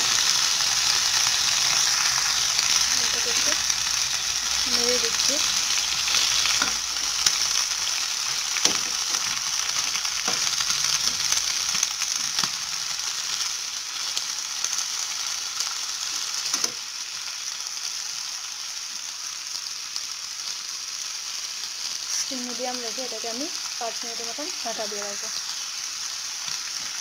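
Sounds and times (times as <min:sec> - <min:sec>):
vegetables sizzling in frying pan: 0:00.0 - 0:27.0.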